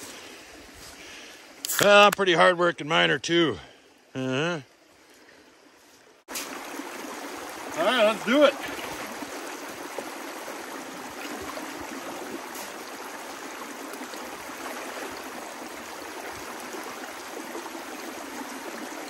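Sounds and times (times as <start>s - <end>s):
creek water flowing: 0.0s - 19.0s.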